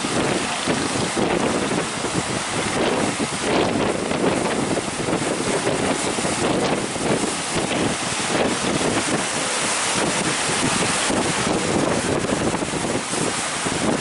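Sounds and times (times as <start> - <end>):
sea waves rushing: 0.0 - 14.0
wind buffeting microphone: 0.0 - 14.0.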